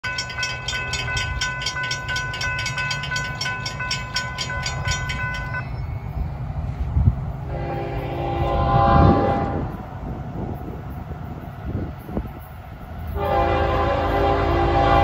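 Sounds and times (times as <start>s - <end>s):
crossing warning bell ringing: 0.0s - 15.0s.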